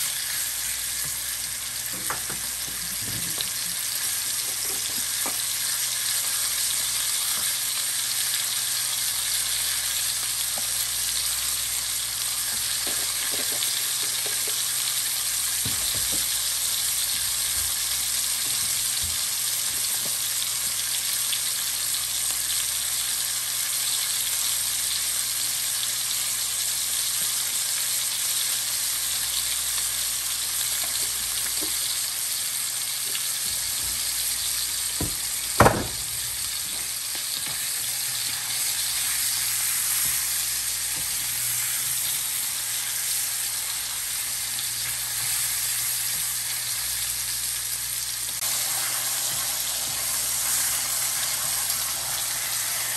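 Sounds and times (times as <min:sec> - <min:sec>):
steaks sizzling in a frying pan: 0:00.0 - 0:52.9.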